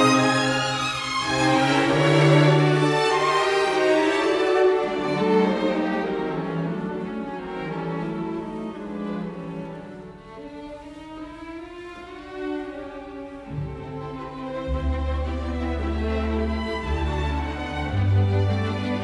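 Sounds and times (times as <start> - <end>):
slow violin string music: 0.0 - 19.0.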